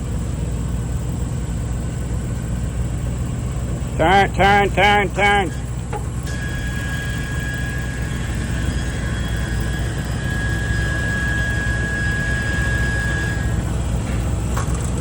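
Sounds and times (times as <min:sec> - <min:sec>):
thin steady whine: 0:00.0 - 0:15.0
truck engine running at low revs: 0:00.0 - 0:15.0.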